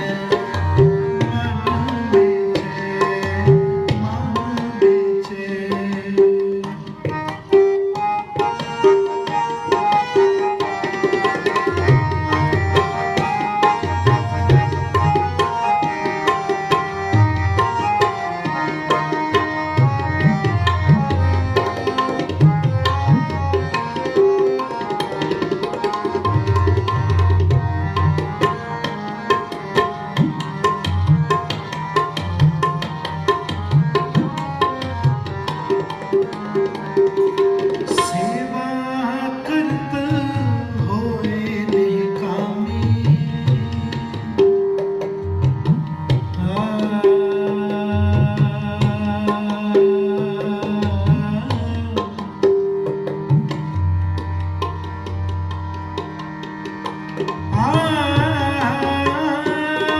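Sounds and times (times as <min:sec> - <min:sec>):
tabla fast rhythm: 0:00.0 - 0:59.9.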